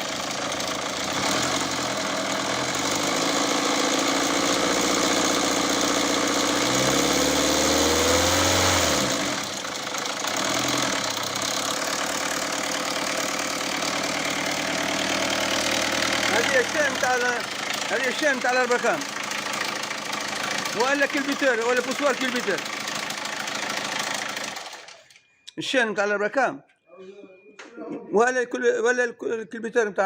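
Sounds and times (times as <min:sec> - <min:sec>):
diesel engine clattering: 0:00.0 - 0:25.0.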